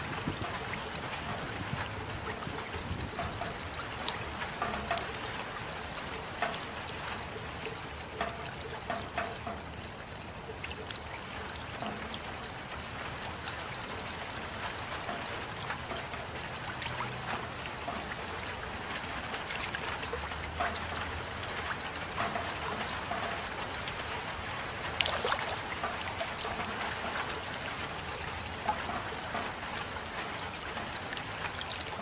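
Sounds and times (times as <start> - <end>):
raindrops landing close: 0.0 - 32.0.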